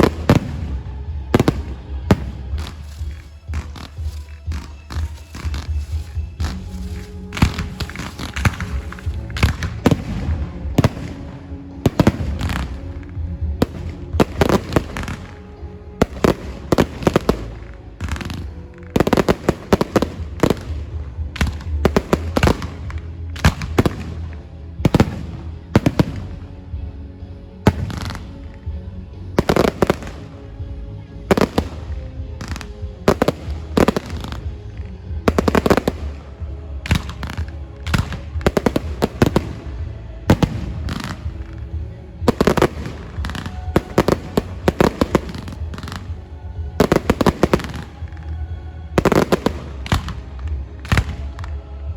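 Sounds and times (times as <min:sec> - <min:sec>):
fireworks bangs: 0:00.0 - 0:26.3, 0:31.3 - 0:51.6
low rumble: 0:00.0 - 0:51.9
music playing: 0:00.0 - 0:51.9.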